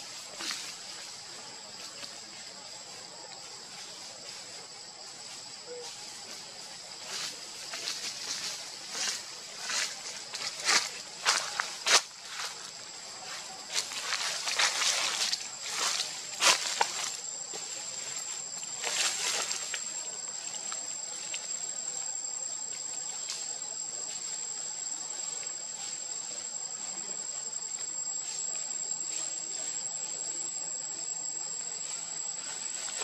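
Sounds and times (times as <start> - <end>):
insects shrilling: 0.0 - 30.0.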